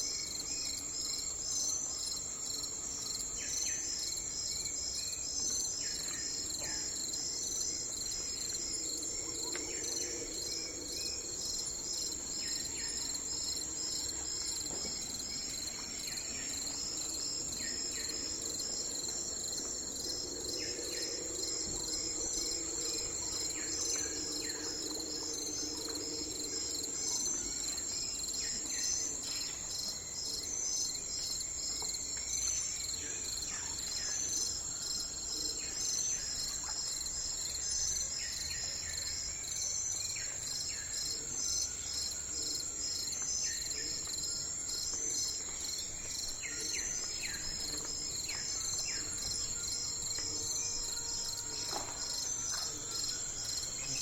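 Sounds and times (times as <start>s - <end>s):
crickets trilling: 0.1s - 54.0s.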